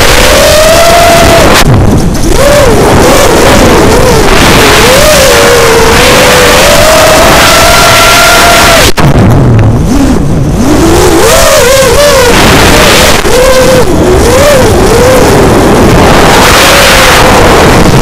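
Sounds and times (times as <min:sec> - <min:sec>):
quadcopter motors whining: 0:00.0 - 0:09.0, 0:09.9 - 0:18.0
heavy wind rush: 0:00.0 - 0:18.0.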